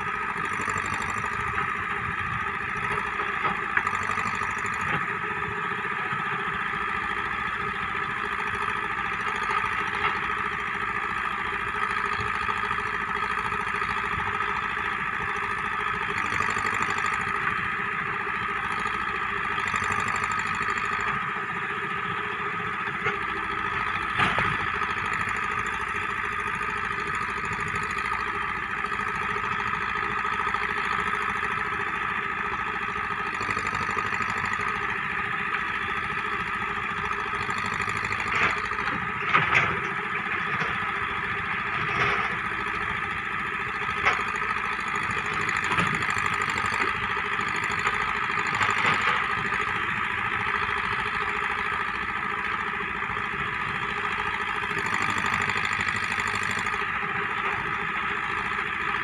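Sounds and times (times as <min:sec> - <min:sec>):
distant diesel engine running: 0:00.0 - 0:59.0.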